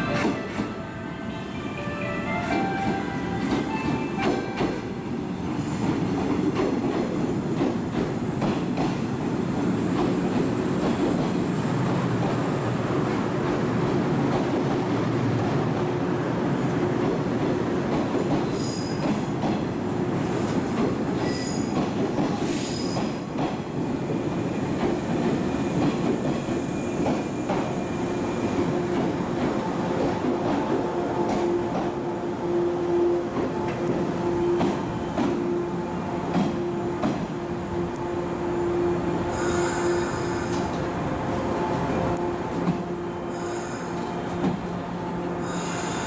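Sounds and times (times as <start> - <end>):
electric train rumbling: 0.0 - 46.0.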